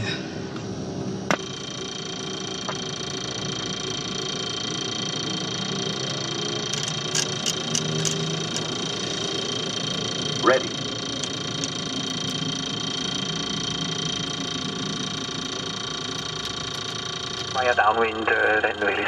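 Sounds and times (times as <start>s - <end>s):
turboprop engine whine: 0.0s - 19.0s
sharp click: 1.3s - 17.6s.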